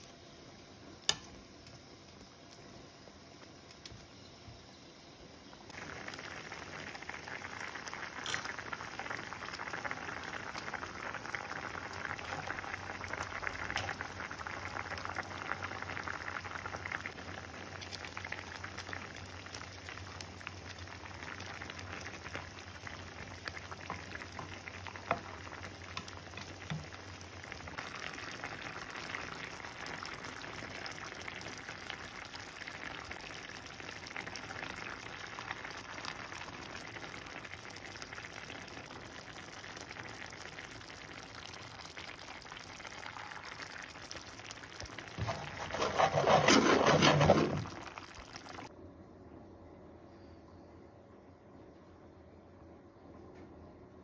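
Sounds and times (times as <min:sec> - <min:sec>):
curry bubbling and sizzling: 0:05.4 - 0:48.7.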